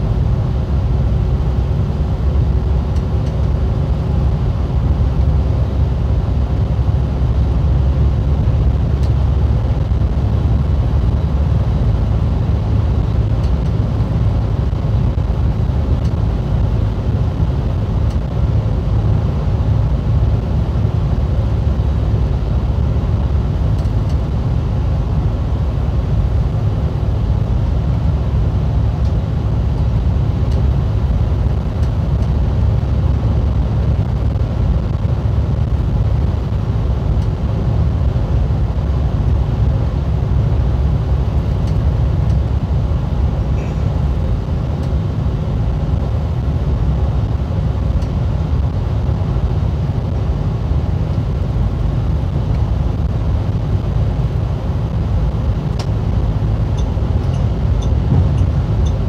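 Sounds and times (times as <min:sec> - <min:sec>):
coach engine drone: 0:00.0 - 0:59.0
tyre and road noise: 0:00.0 - 0:59.0.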